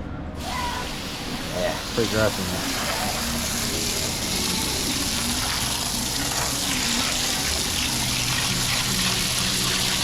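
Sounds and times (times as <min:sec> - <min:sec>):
water running: 0:01.5 - 0:10.0.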